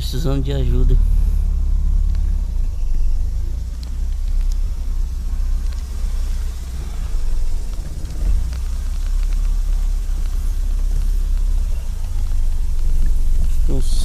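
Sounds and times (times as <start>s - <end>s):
car driving on rough dirt road: 0.0s - 14.0s.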